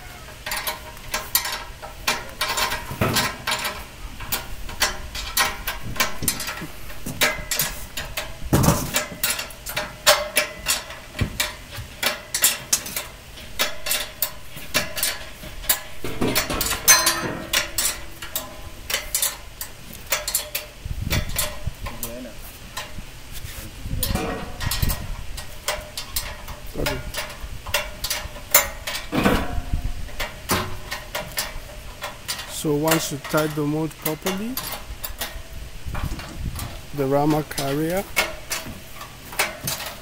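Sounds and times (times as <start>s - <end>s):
metal knocks: 0.0s - 23.0s, 23.9s - 40.0s
wrench clicking on metal nuts: 0.2s - 22.2s, 24.0s - 40.0s.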